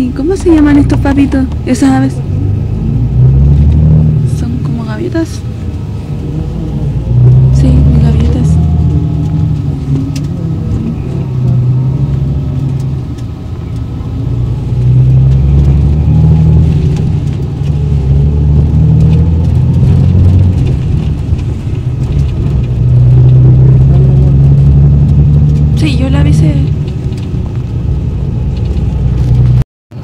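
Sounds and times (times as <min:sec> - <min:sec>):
bus engine droning: 0:00.0 - 0:30.0
road noise: 0:00.0 - 0:30.0.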